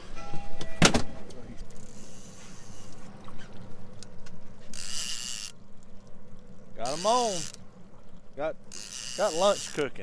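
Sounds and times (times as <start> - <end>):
boat on open water: 0.0 - 10.0.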